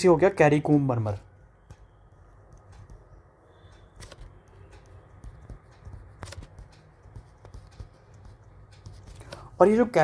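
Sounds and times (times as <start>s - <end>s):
faint clicks and taps: 1.2s - 10.0s.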